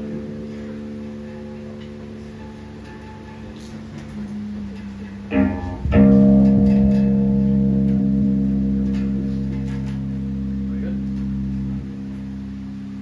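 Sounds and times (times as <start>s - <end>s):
electric guitar strum: 0.0s - 13.0s
loud ringing guitar chord: 0.0s - 13.0s
low held bass note: 0.0s - 13.0s.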